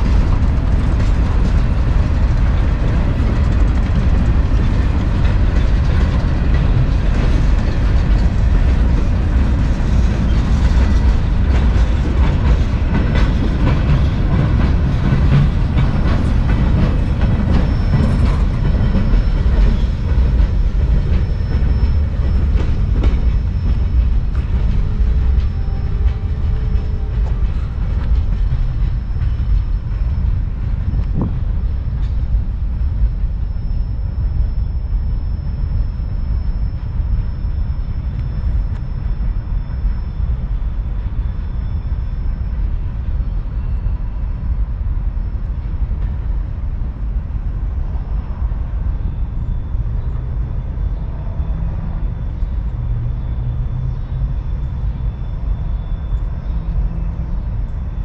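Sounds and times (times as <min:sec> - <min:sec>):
freight train cars rumbling past: 0:00.0 - 0:58.0.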